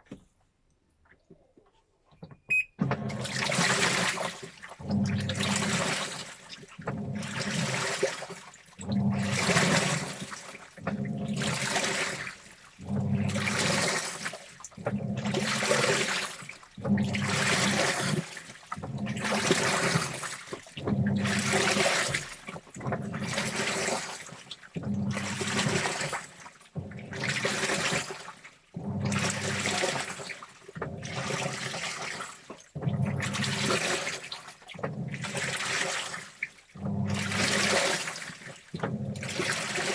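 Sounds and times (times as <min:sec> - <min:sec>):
washing machine motor hum: 0:02.5 - 0:39.9
washing machine sloshing: 0:02.5 - 0:39.9.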